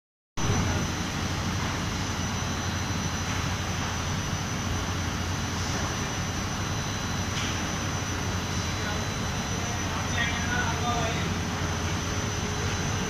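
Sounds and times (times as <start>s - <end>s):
industrial machinery drone: 0.4s - 13.0s.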